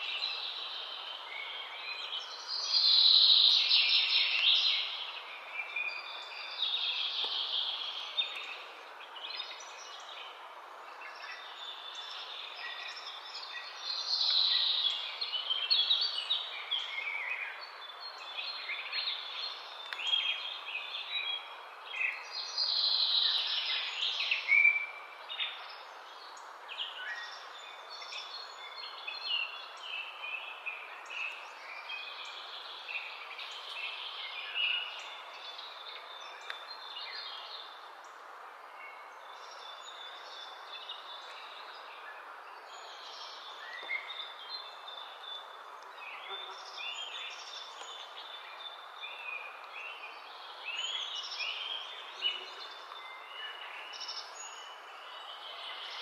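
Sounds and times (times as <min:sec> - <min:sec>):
birds singing and calling: 0:00.0 - 0:56.0
steady outdoor hiss: 0:00.0 - 0:56.0.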